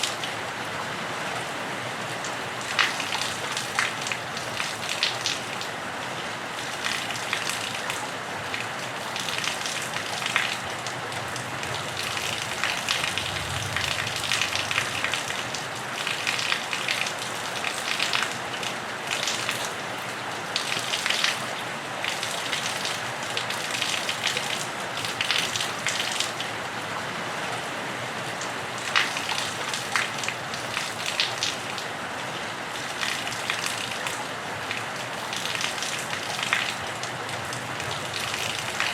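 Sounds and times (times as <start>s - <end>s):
rain pattering on a roof: 0.0s - 38.9s.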